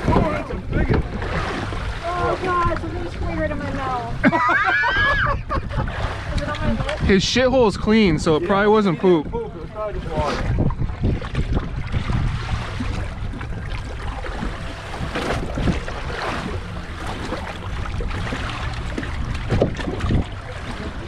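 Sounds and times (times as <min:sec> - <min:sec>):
wind rumbling over microphone: 0:00.0 - 0:21.0.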